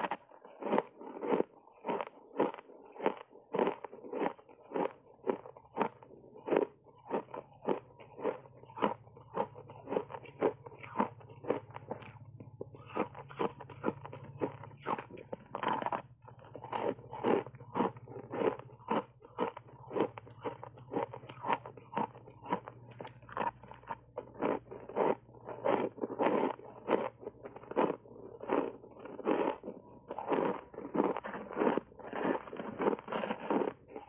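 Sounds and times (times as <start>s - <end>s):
ice being chewed crunching: 0.0s - 34.0s.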